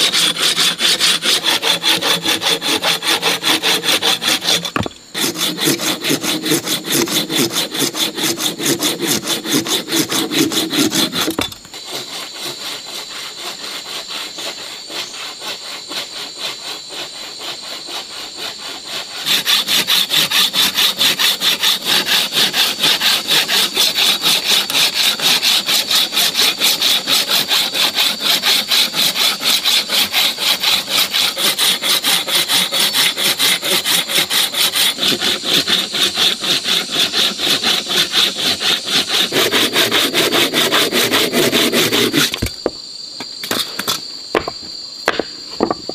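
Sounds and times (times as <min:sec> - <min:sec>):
hand saw cutting log: 0:00.0 - 0:42.8, 0:43.4 - 0:45.9.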